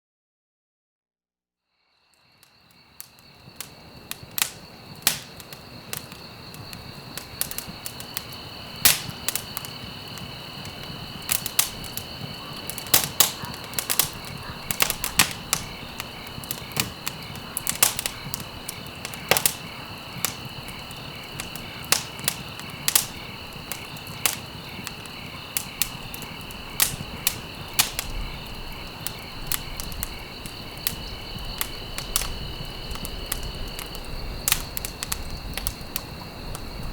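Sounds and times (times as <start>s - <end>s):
insect chorus: 1.7s - 36.9s
campfire crackling and popping: 2.4s - 36.9s
flame hissing: 2.4s - 36.9s.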